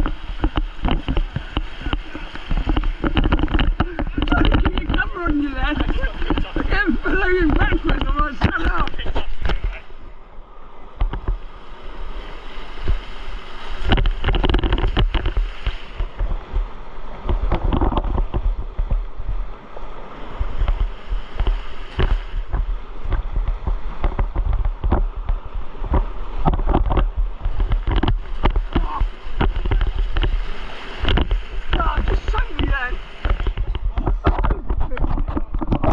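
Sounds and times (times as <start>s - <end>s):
wind buffeting microphone: 0.0s - 10.1s, 10.8s - 35.9s
water splashing around a kayak: 0.0s - 35.9s.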